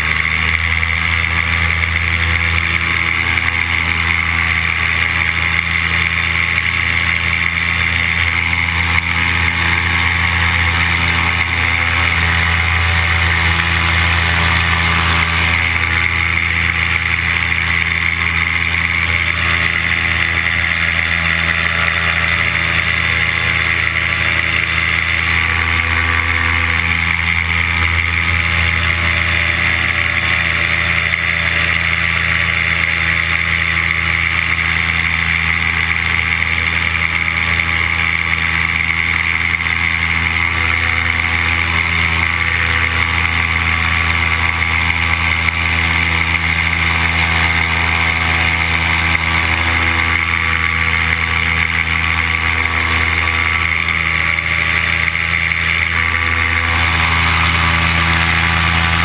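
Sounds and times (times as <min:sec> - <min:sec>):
paramotor engine drone: 0:00.0 - 0:59.0.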